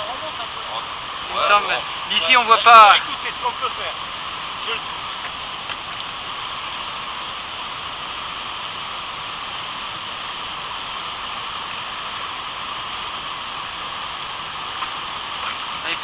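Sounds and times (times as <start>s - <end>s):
white water rushing: 0.0s - 16.0s.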